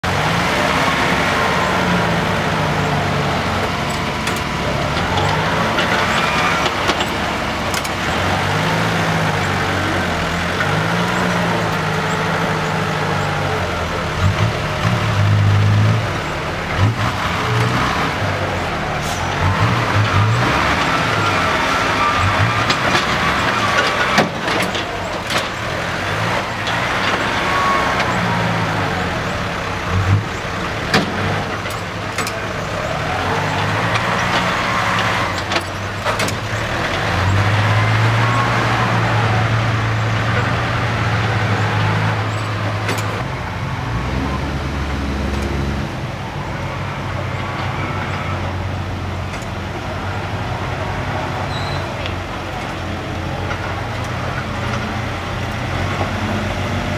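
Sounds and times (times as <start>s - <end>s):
truck diesel engine revving: 0.0s - 56.9s.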